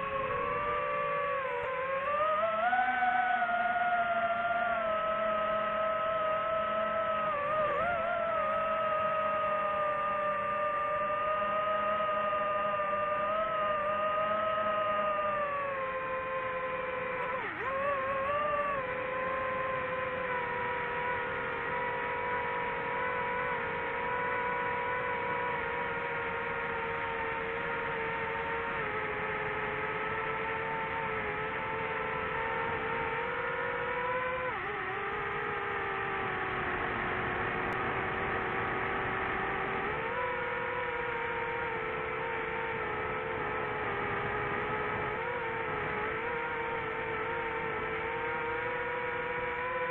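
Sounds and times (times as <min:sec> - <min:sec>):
drone propellers whirring: 0:00.0 - 0:49.9.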